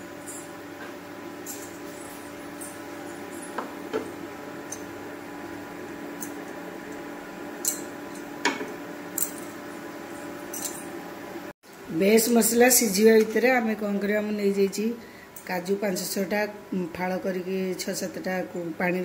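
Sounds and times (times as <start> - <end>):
induction cooktop hum: 0.0 - 19.0.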